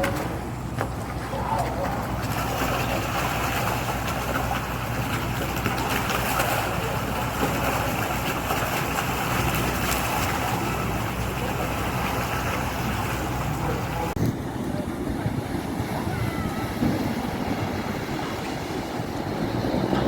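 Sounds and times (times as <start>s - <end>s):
boat engine humming: 0.0s - 20.0s
water rushing: 0.0s - 20.0s
wind: 0.0s - 20.0s.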